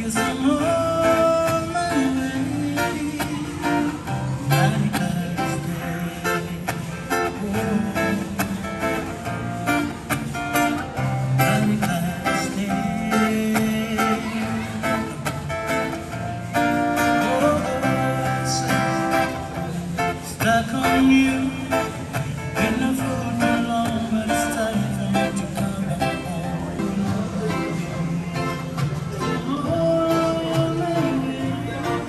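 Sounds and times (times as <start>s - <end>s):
amplified acoustic guitar: 0.0s - 32.0s.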